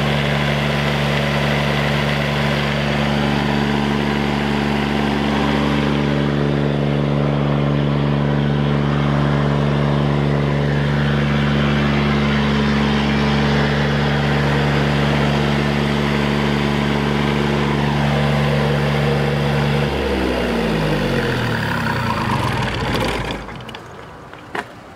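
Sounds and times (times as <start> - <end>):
diesel generator running: 0.0 - 24.9.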